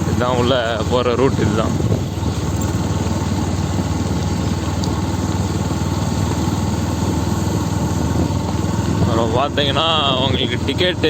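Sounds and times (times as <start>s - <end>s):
motorbike engine running: 0.0s - 11.0s
rush of air and road noise: 0.0s - 11.0s.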